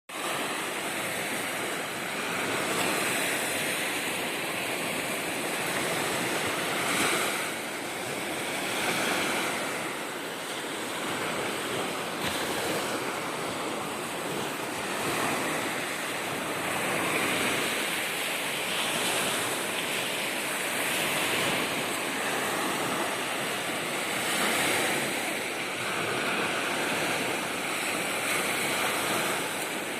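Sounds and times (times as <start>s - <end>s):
lake waves washing ashore: 0.1s - 29.9s
wind on microphone: 0.2s - 29.9s.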